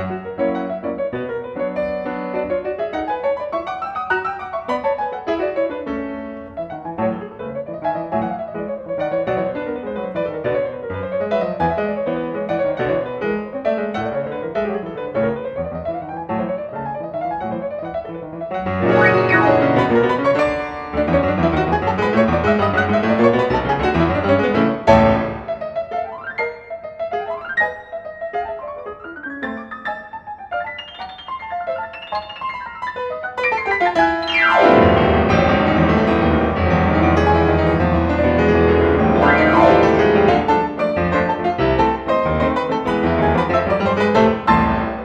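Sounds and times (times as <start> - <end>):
piano music: 0.0 - 45.0.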